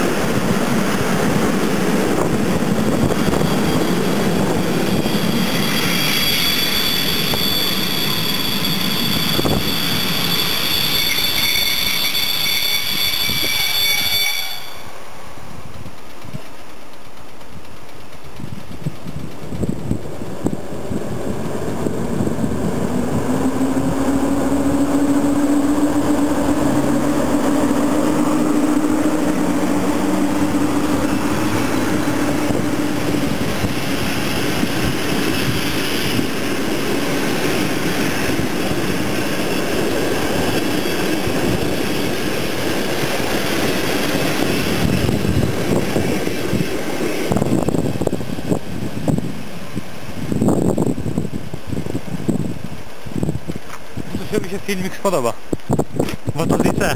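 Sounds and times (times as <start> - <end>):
electric locomotive hum: 0.0 - 54.6
train wheels rushing over rails: 0.0 - 56.9.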